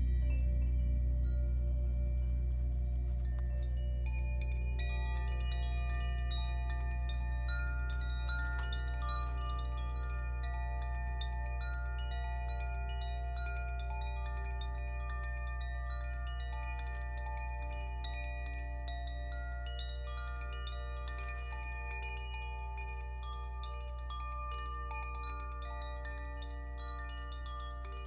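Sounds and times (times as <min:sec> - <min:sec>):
long ringing tones: 0:00.0 - 0:28.0
steady low hum: 0:00.0 - 0:28.0
tube chime tinkling: 0:00.0 - 0:28.0.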